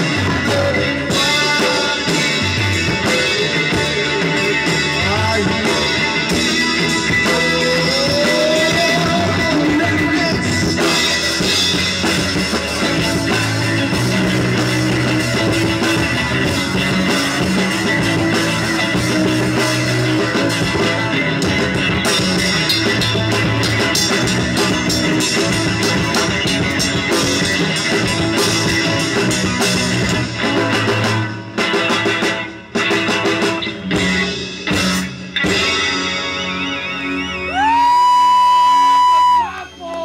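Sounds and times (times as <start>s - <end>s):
drum kit: 0.0s - 39.6s
bass guitar: 0.0s - 40.0s
electric guitars: 0.0s - 40.0s.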